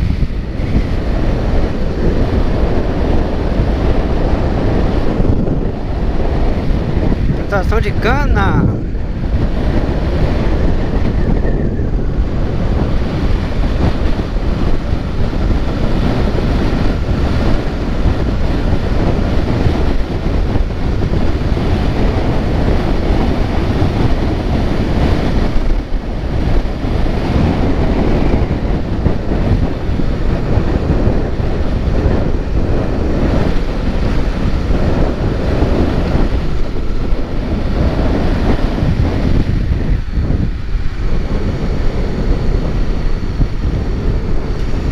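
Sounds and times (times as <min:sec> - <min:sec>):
vehicle rumble: 0:00.0 - 0:44.9
wind rushing over microphone: 0:00.0 - 0:44.9.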